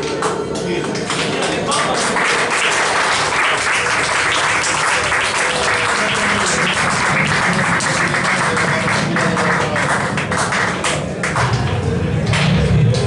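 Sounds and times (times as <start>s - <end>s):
audience applauding: 0.2s - 13.0s.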